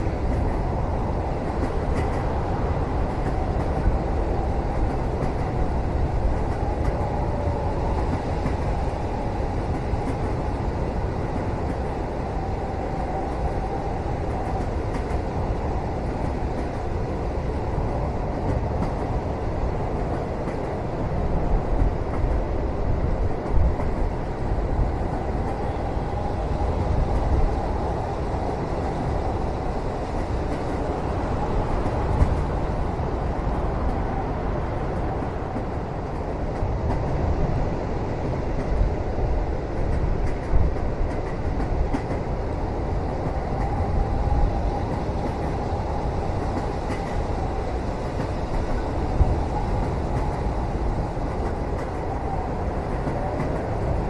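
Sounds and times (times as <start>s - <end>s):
moving train rumble: 0.0s - 54.0s.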